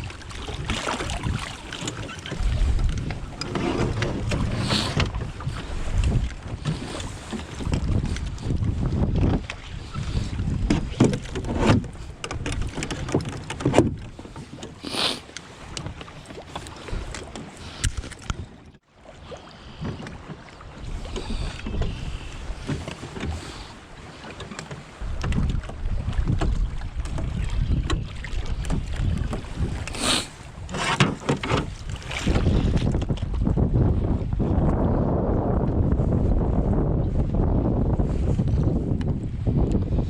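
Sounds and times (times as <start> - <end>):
wind buffeting microphone: 0.0 - 14.5, 20.5 - 24.0, 24.9 - 40.0
water sounds from canoe: 0.0 - 40.0.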